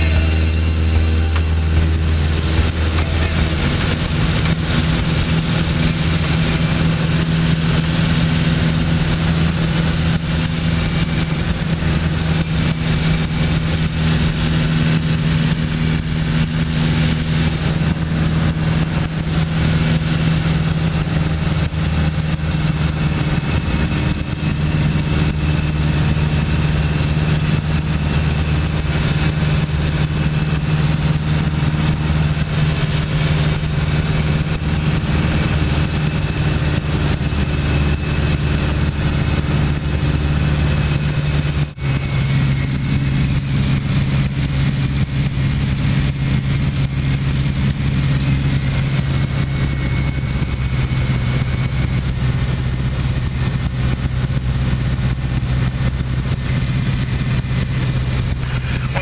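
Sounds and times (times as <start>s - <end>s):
propeller airplane engine: 0.0s - 59.0s.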